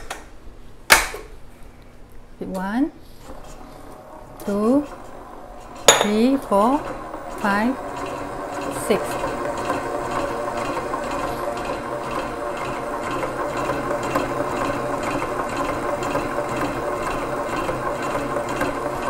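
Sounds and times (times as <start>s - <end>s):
stand mixer motor whirring: 3.3s - 19.0s.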